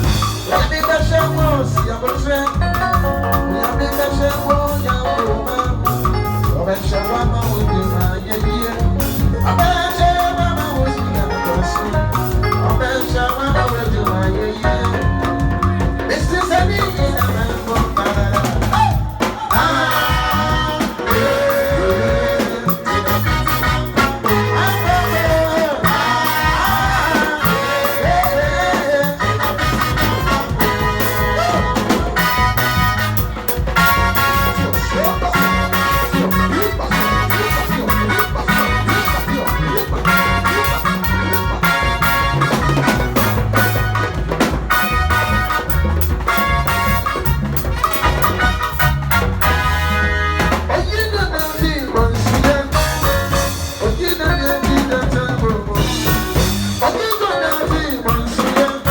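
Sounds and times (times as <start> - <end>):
band playing dance music: 0.0 - 58.9
lead singer: 0.0 - 58.9.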